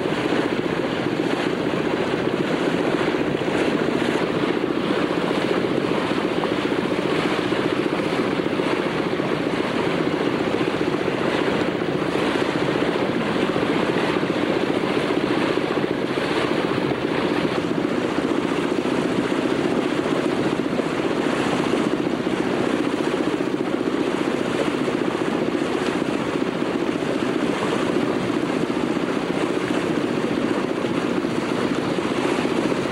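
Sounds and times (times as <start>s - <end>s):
boat engine droning: 0.0s - 32.9s
water noise: 0.0s - 32.9s
wind noise: 0.0s - 32.9s.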